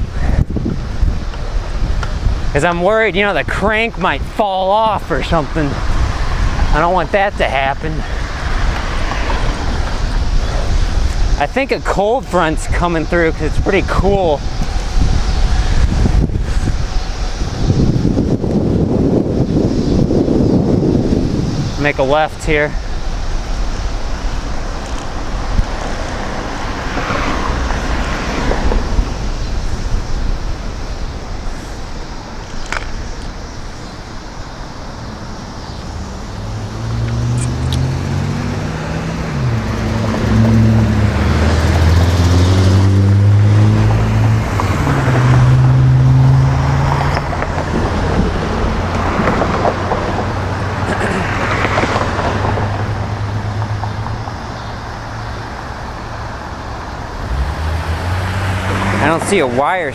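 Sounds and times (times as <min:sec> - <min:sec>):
cars passing close by: 0:00.0 - 0:59.9
vehicle engines humming: 0:00.0 - 0:59.9.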